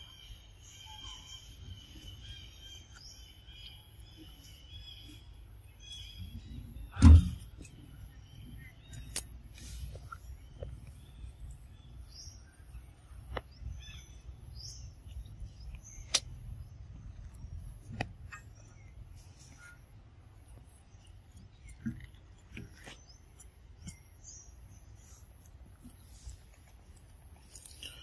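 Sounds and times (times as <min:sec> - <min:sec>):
faint bird chirps: 0:00.0 - 0:26.6.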